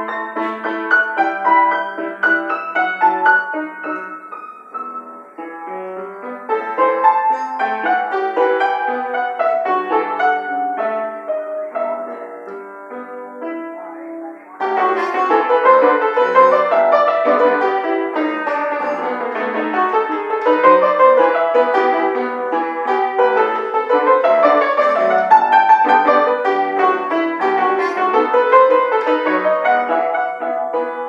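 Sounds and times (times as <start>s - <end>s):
piano piece: 0.0s - 31.0s.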